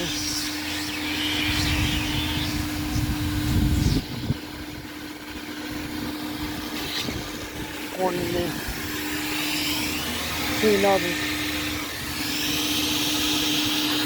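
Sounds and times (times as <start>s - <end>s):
car wash machinery hum: 0.0s - 14.0s.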